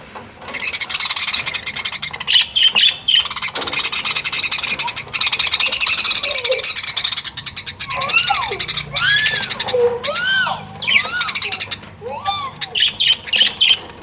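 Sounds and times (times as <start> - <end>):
budgerigars chattering: 0.5 - 14.0
budgerigars squawking: 0.5 - 14.0.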